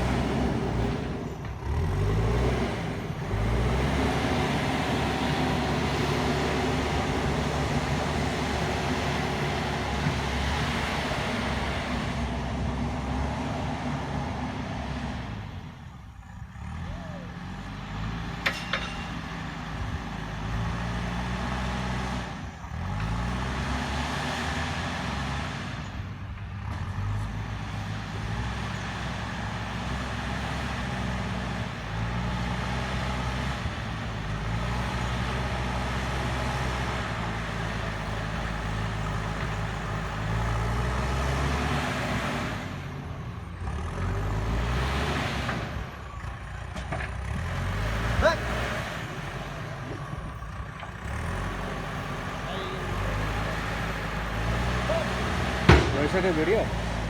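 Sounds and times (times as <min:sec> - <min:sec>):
diesel engine revving under load: 0:00.0 - 0:57.0.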